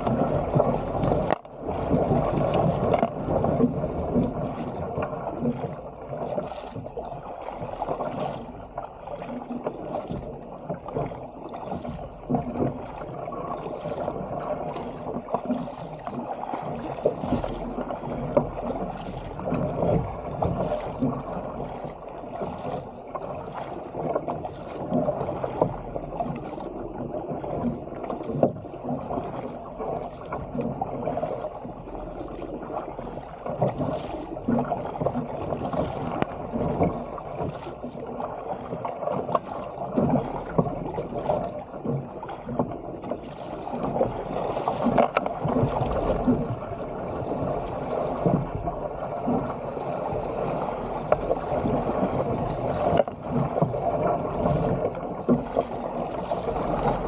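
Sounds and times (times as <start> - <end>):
paddle splashes: 0.0 - 57.0
water rushing along kayak hull: 0.0 - 57.0.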